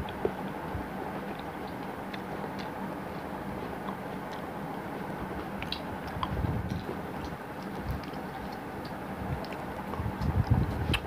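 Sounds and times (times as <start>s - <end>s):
clicks and thumps of eating fruit: 0.0s - 11.0s
steady low hum: 0.0s - 11.0s.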